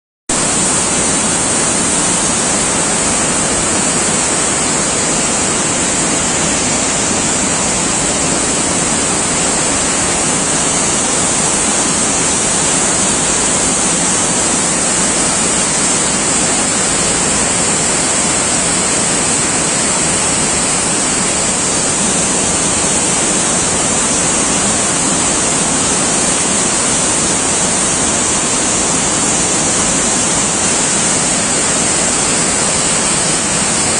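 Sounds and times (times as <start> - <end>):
loud even hiss: 0.3 - 33.9.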